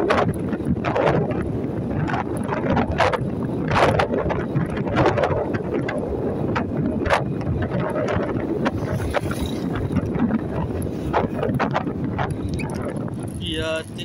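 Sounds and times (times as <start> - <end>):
motorcycle engine rumble: 0.0 - 14.0
road noise: 0.0 - 14.0
wind buffeting microphone: 0.0 - 14.0.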